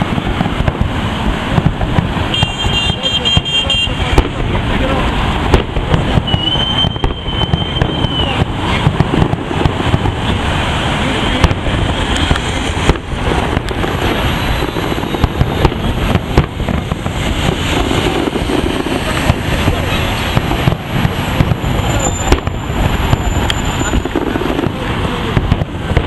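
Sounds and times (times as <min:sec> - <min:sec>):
fireworks bangs and crackles: 0:00.0 - 0:26.0
high whistling firework: 0:00.0 - 0:26.0.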